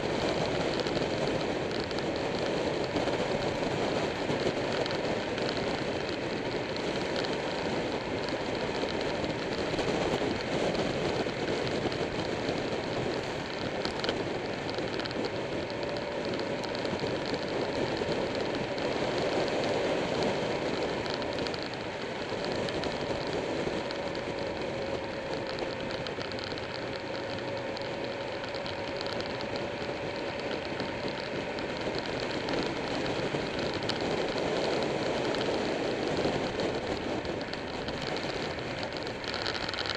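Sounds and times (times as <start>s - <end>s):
motorcycle engine droning: 0.0s - 39.9s
wind rushing over microphone: 0.0s - 39.9s.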